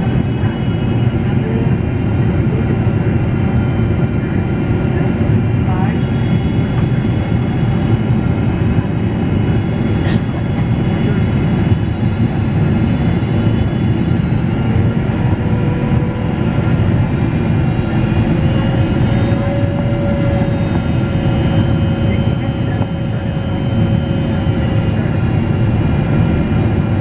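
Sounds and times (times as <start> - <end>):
airliner cabin airflow and engine noise: 0.0 - 27.0.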